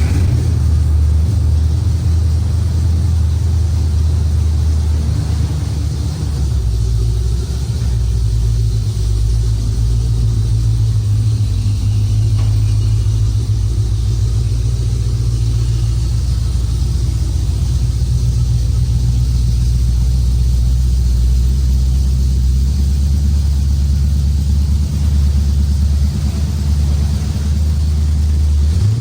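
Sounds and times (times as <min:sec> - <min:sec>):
car engine deep drone: 0:00.0 - 0:29.0.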